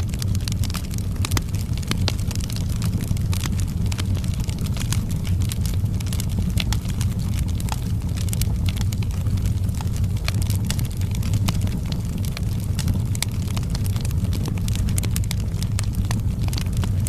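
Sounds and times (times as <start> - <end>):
fire crackling and popping: 0.0 - 17.0
fireplace fire rumbling: 0.0 - 17.0.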